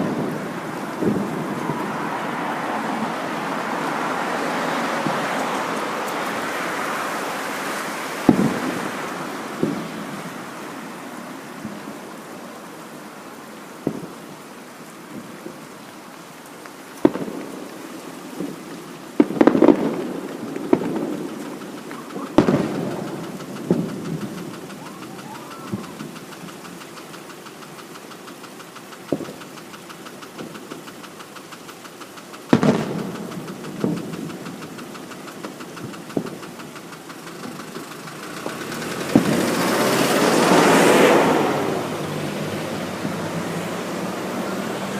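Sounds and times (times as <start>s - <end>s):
fireworks booming: 0.0s - 13.0s, 13.8s - 15.7s, 16.9s - 44.9s
steady rushing noise: 0.0s - 44.9s.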